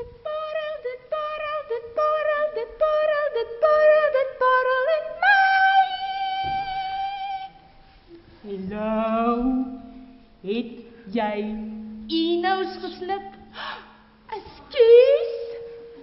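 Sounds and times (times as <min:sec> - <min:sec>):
high singing voice: 0:00.0 - 0:10.8, 0:11.4 - 0:16.0.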